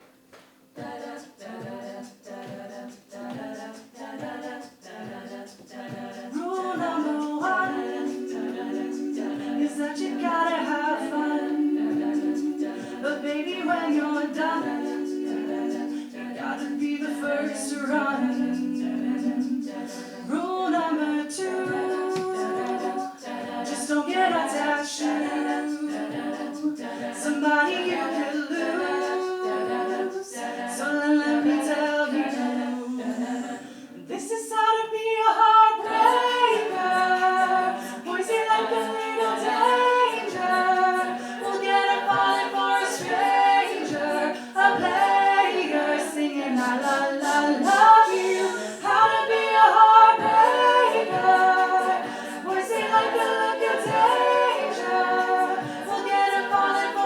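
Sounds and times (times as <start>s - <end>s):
a cappella group singing: 0.6s - 57.0s
lead voice singing: 0.8s - 57.0s.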